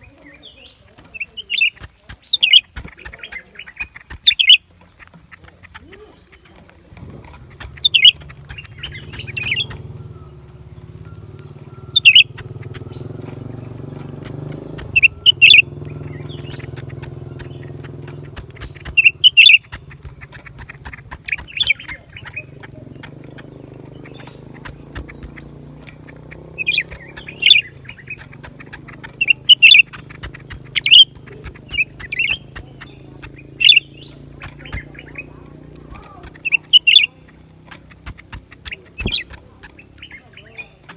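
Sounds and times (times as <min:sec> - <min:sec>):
bird short sharp calls: 0:00.0 - 0:40.9
steady low hum: 0:02.1 - 0:40.9.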